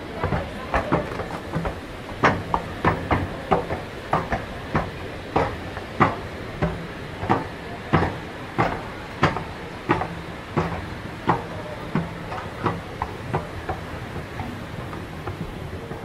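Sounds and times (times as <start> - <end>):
escalator clacking: 0.0 - 16.0.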